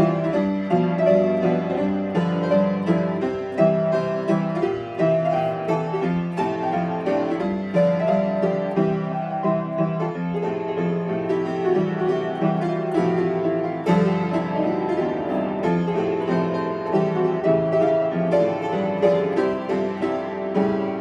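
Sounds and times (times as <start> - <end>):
upright piano playing: 0.0 - 21.0.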